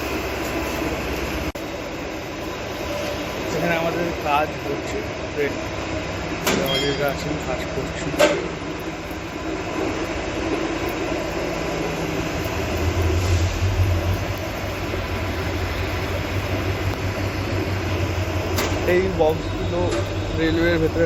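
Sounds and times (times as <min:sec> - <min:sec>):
loud machinery noise: 0:00.0 - 0:21.0
low hum: 0:00.0 - 0:21.0.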